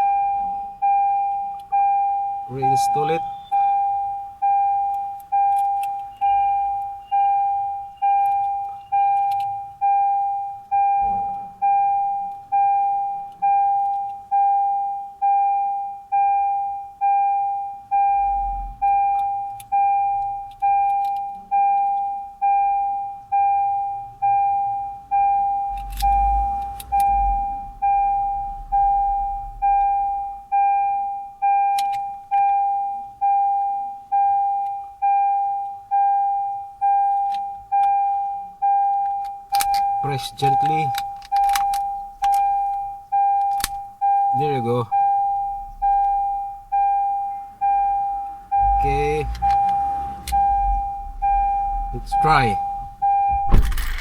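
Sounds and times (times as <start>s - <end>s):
car warning chime: 0.0s - 54.0s.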